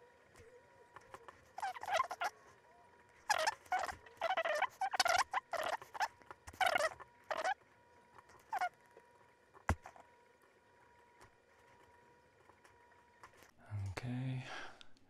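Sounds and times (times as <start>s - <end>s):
stylus scraping on a tablet: 0.0s - 13.6s
faint steady whine: 0.0s - 15.0s.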